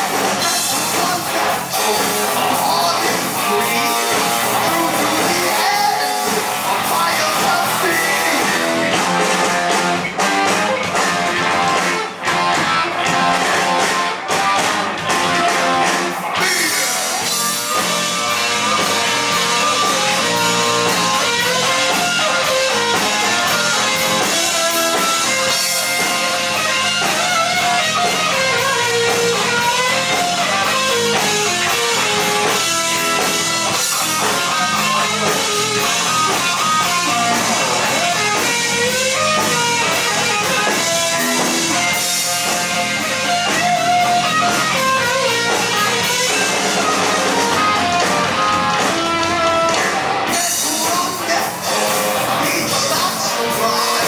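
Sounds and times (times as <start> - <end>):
heavy metal band playing: 0.0 - 54.0.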